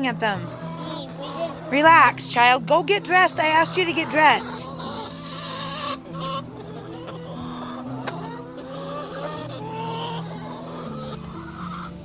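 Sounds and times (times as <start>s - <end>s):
hens clucking and calling: 0.0s - 12.0s.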